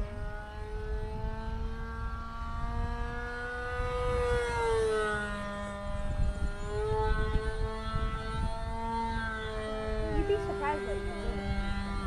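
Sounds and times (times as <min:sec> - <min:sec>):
model plane engine passing by: 0:00.0 - 0:12.0
wind on microphone: 0:00.0 - 0:12.0.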